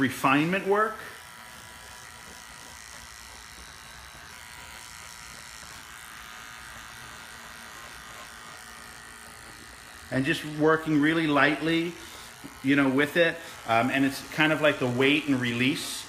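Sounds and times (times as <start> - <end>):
electric hair clippers buzzing: 0.0 - 16.0.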